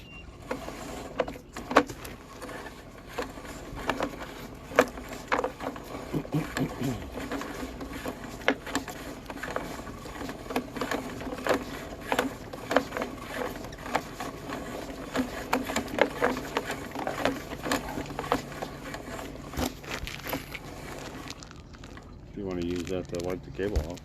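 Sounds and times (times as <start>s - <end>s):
cable rattling into reel: 0.0s - 24.0s.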